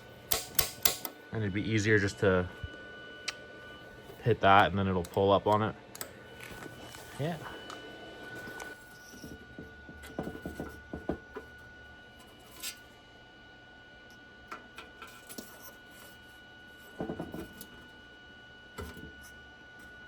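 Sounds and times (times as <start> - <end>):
faint steady high whine: 0.0 - 20.0.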